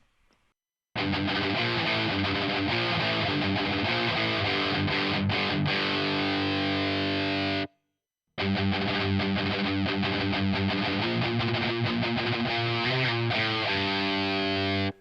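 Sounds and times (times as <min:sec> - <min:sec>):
distorted electric guitar: 0:01.0 - 0:07.7, 0:08.4 - 0:15.0.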